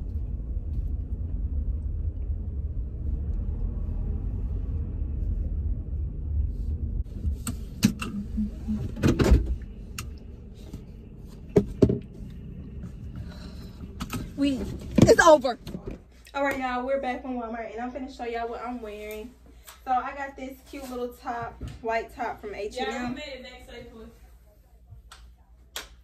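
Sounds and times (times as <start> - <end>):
car road and engine rumble: 0.0 - 24.8.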